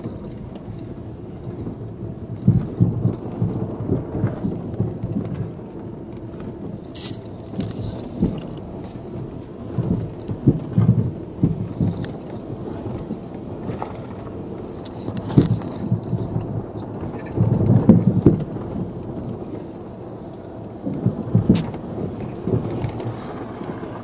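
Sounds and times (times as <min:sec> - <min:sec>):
car road rumble: 0:00.0 - 0:24.0.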